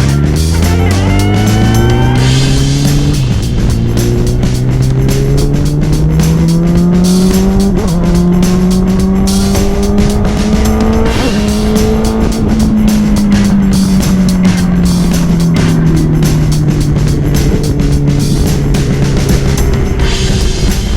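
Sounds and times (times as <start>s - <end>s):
motorcycle engine revving: 0.0s - 20.9s
quick gear upshifts: 0.0s - 20.9s.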